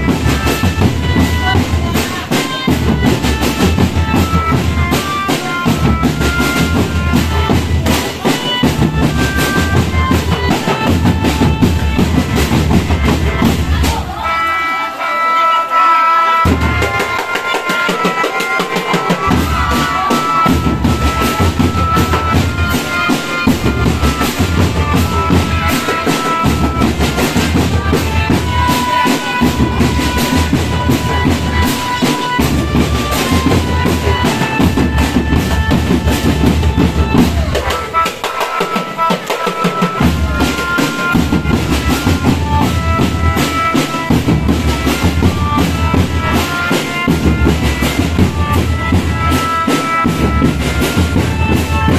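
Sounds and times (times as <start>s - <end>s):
snare drums beating: 0.0s - 14.7s, 16.4s - 51.9s.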